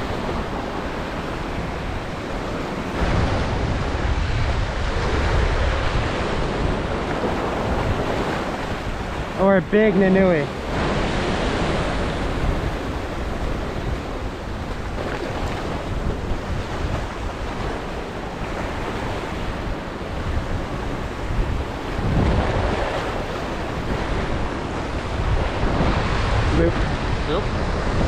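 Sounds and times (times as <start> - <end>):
surf breaking on rocks: 0.0 - 28.0
wind buffeting microphone: 0.0 - 28.0.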